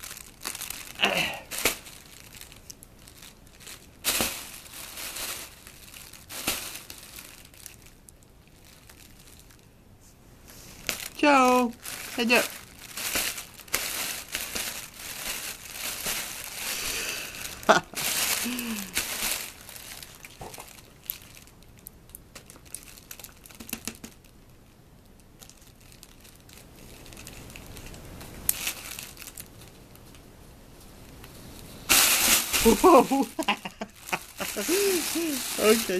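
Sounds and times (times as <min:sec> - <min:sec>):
cat rustling crinkly material: 0:00.0 - 0:35.9.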